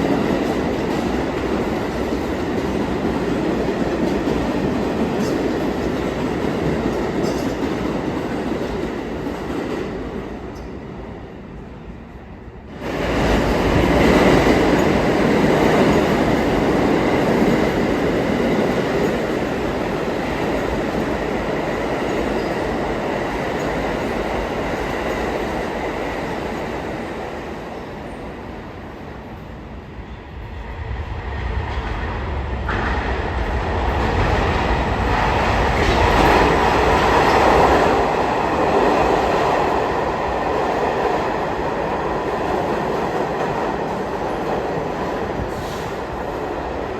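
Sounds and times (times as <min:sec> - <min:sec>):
subway train wheels rumbling: 0:00.0 - 0:46.9.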